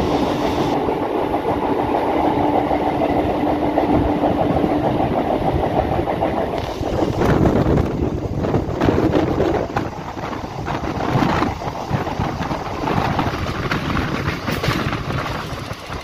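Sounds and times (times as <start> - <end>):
train rumbling on track: 0.0 - 16.0
wind rushing over microphone: 0.0 - 16.0.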